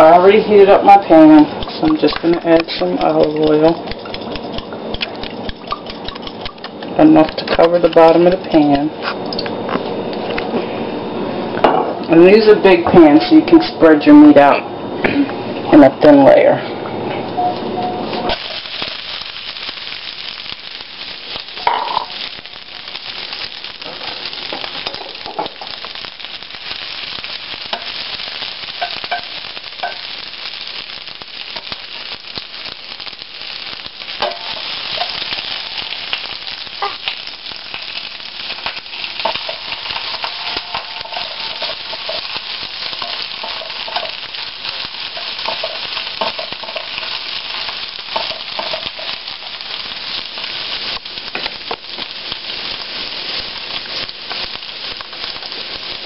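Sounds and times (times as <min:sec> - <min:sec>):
onions sizzling in frying pan: 0:00.0 - 0:16.5, 0:17.2 - 0:56.0.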